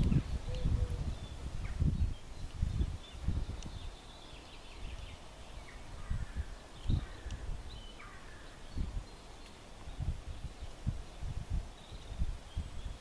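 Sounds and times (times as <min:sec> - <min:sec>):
birds chirping: 0:00.0 - 0:13.0
wind gusting on microphone: 0:00.0 - 0:13.0.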